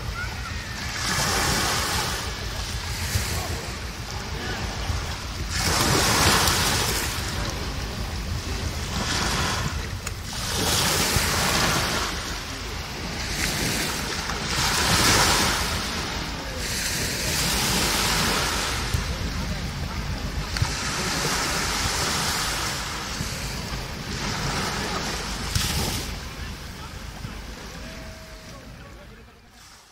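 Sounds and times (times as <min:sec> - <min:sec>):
small waves breaking on beach: 0:00.0 - 0:29.9.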